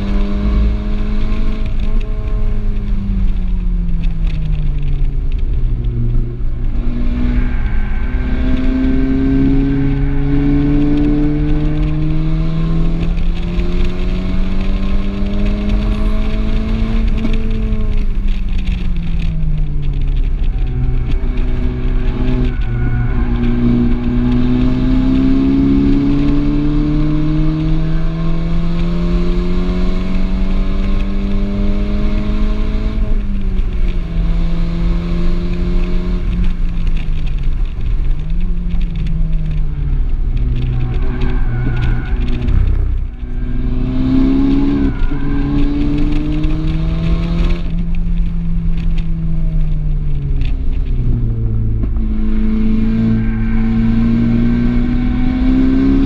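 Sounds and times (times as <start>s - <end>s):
car engine revving: 0.0s - 56.0s
tyre and wind noise: 0.0s - 56.0s.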